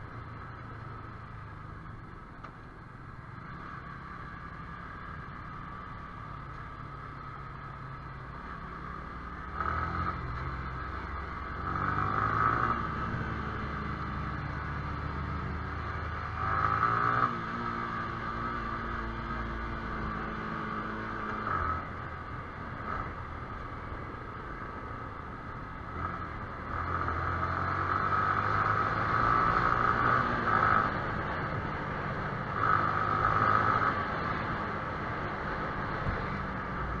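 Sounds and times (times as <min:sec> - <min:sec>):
road noise: 0:00.0 - 0:37.0.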